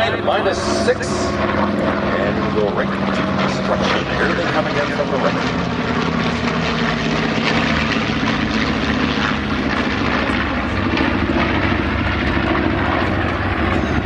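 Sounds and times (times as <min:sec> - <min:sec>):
propeller planes droning past: 0:00.0 - 0:14.0.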